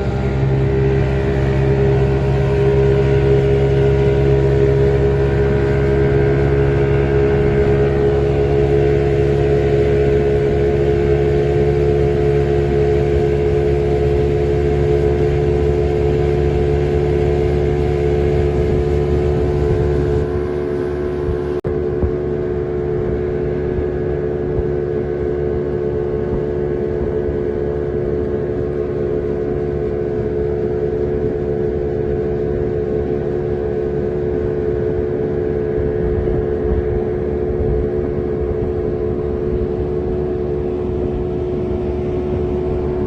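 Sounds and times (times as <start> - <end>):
boat outboard engine running: 0.0 - 43.0.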